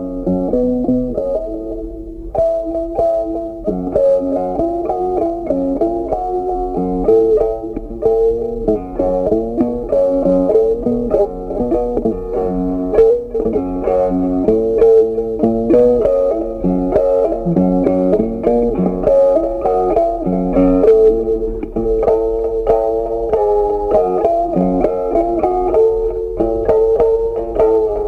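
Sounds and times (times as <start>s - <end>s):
bass line: 0.0s - 28.0s
plucked guitar melody: 0.0s - 28.0s.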